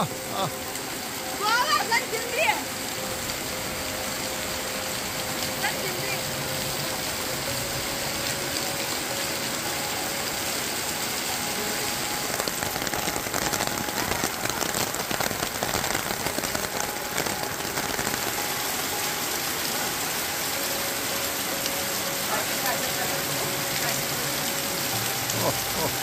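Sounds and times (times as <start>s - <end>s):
heavy rain falling: 0.0s - 26.0s
raindrops hitting hard surface: 0.0s - 26.0s.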